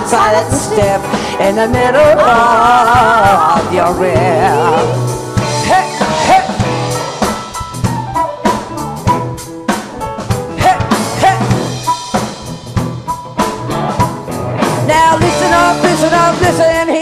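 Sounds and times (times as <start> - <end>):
blues band playing: 0.0 - 17.0
drum kit groove: 0.0 - 17.0
sliding lead guitar phrases: 0.0 - 17.0.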